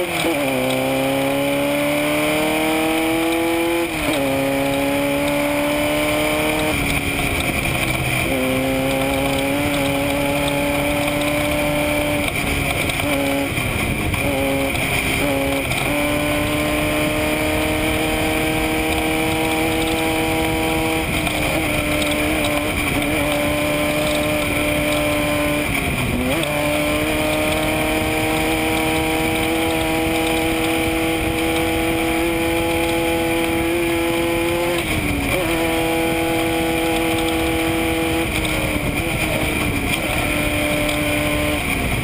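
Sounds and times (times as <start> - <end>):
race vehicle engine running hard: 0.0 - 42.0
road and wind noise: 0.0 - 42.0.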